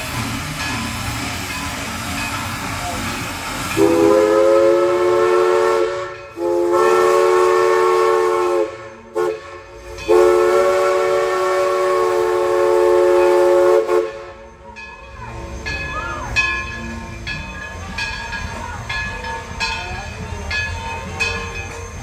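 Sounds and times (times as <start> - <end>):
steam locomotive chime whistle: 0.0 - 22.0.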